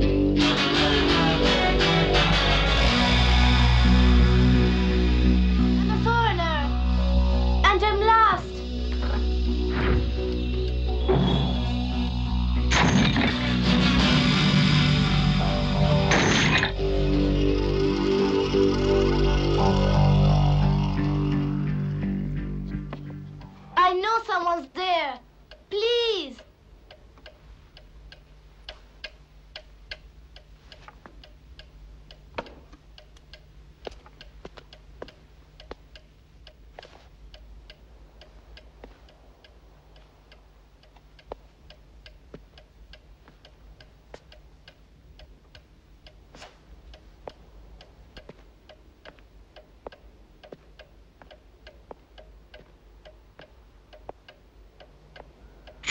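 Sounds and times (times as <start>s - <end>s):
clock ticking: 0.0s - 55.9s
faint low hum: 0.0s - 55.9s.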